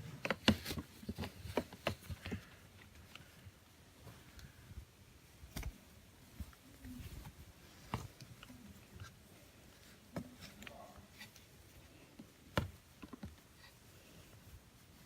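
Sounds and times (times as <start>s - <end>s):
soft handling knocks and clicks: 0.0s - 4.6s, 5.5s - 14.6s.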